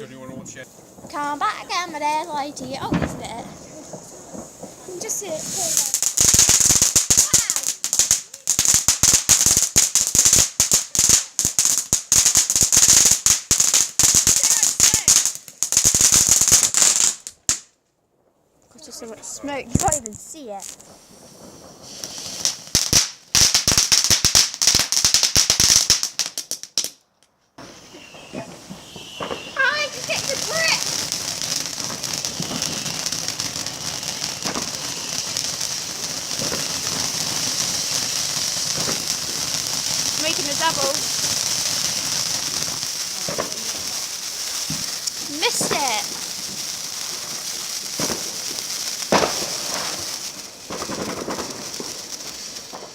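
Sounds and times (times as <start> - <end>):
firework hiss: 0.0 - 17.7, 18.7 - 27.0, 27.6 - 52.9
firework cracks and pops: 0.0 - 52.9.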